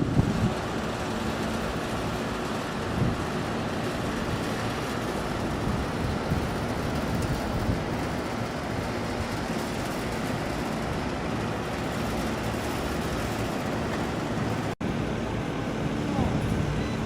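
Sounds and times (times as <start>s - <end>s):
air conditioning unit rushing: 0.0s - 17.0s.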